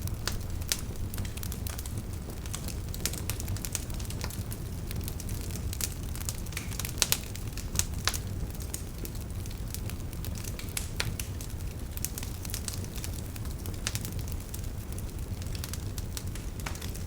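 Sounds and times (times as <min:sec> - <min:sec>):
fire crackles and pops: 0:00.0 - 0:17.0
fireplace flames rumbling: 0:00.0 - 0:17.0.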